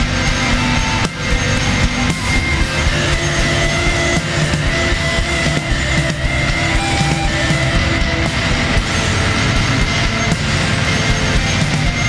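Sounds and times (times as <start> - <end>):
electric guitars sustained notes: 0.0 - 12.0
post-rock band playing loudly: 0.0 - 12.0.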